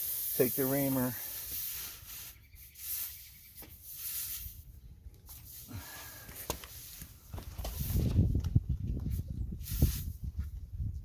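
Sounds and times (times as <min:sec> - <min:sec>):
air hissing from tire puncture: 0:00.0 - 0:08.3, 0:09.1 - 0:10.4.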